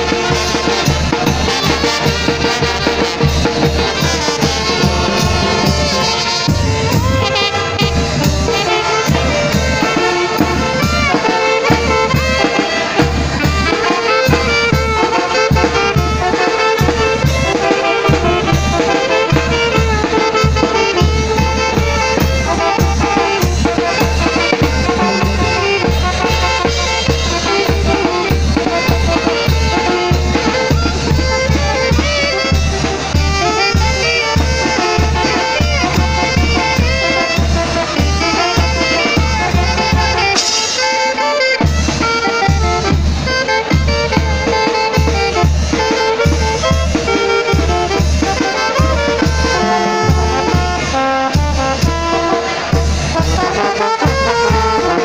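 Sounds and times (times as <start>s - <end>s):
quick bass drum beat: 0.0s - 40.3s, 45.0s - 55.0s
saxophones playing lively tune: 0.0s - 55.0s.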